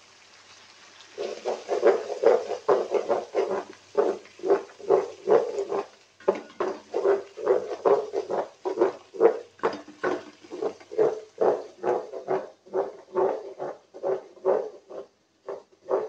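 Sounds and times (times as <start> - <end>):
wooden spatula scraping a pot: 1.2 - 16.0.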